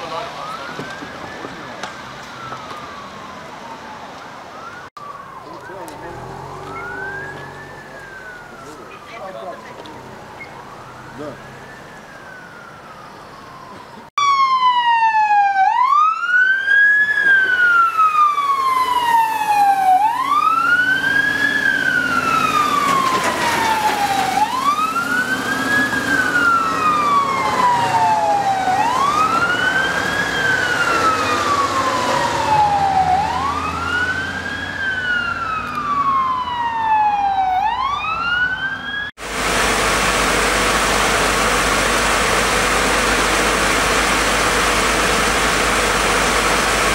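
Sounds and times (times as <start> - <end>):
emergency vehicle siren wailing: 0.0 - 46.9.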